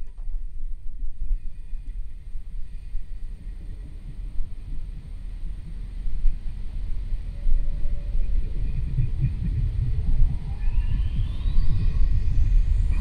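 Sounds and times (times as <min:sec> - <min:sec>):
low fluttering rumble: 0:00.0 - 0:13.0.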